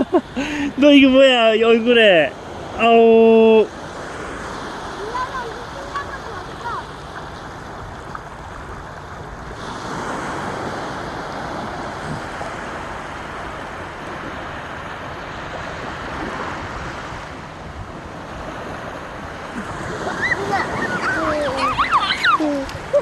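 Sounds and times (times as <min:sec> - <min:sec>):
sea waves washing onto beach: 0:00.0 - 0:23.0.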